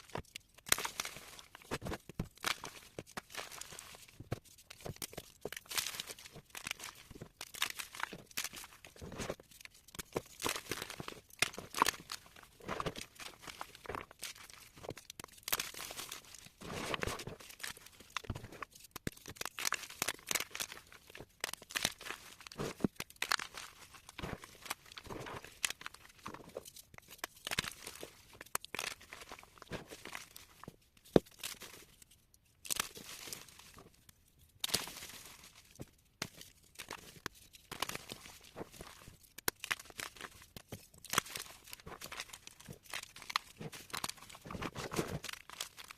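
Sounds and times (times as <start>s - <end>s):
chalk crunching and crumbling: 0.0s - 45.9s.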